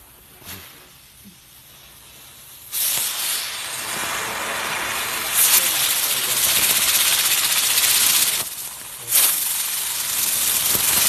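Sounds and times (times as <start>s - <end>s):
ground firework hissing: 0.0s - 11.0s.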